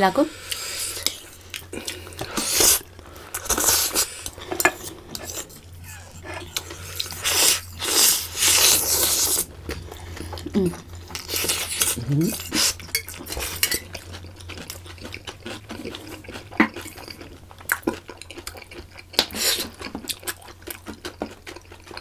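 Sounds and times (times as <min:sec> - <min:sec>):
noodles slurped and chewed: 0:00.4 - 0:22.0.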